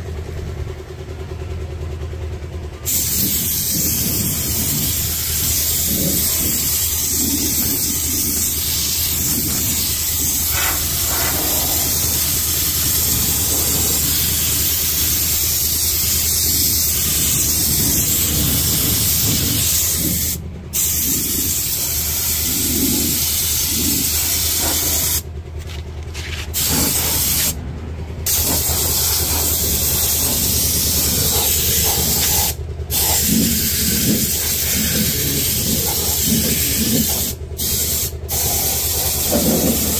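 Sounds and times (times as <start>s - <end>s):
spray gun hissing: 2.8s - 25.2s, 26.5s - 27.6s, 28.3s - 39.9s.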